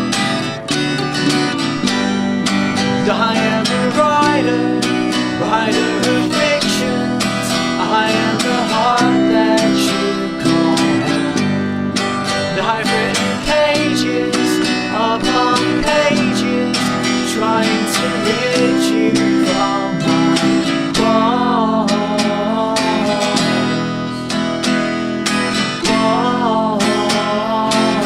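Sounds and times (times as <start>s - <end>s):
bass: 0.0s - 28.0s
mandolin: 0.0s - 28.0s
strummed acoustic guitar: 0.0s - 28.0s.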